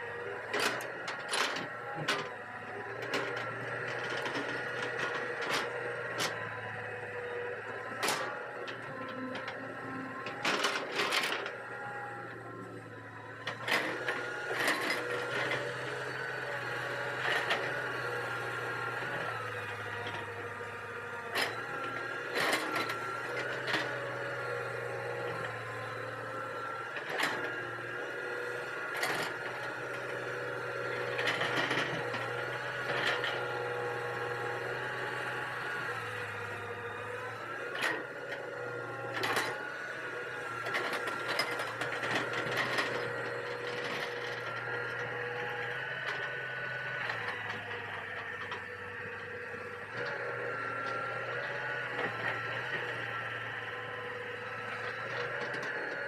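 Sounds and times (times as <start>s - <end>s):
excavator engine and hydraulic whine: 0.0s - 56.0s.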